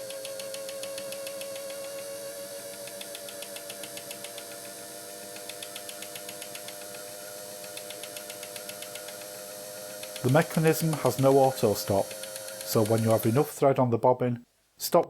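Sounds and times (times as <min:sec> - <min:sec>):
sewing machine motor hum: 0:00.0 - 0:13.5.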